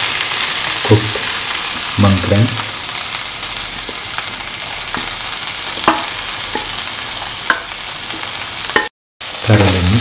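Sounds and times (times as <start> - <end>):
beans sizzling in hot oil: 0.0 - 10.0.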